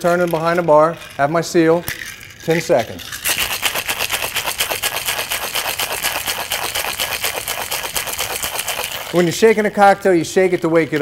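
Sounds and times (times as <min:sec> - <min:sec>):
ice cubes rattling in a shaker: 0:00.0 - 0:11.0.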